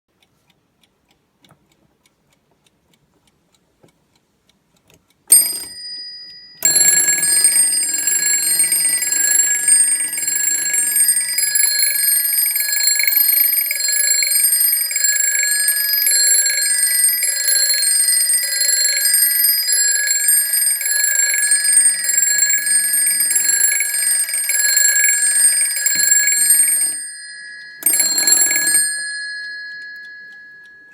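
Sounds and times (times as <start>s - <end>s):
alarm clock bells ringing: 5.3s - 30.9s.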